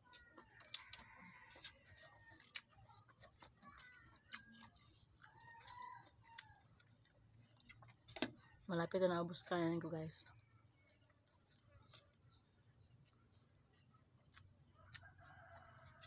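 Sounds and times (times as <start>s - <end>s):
chewing: 0.0s - 8.7s, 9.3s - 16.0s.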